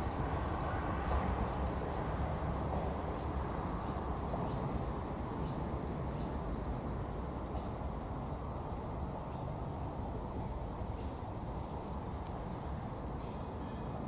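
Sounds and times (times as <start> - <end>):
diesel railcar rumble: 0.0 - 14.0.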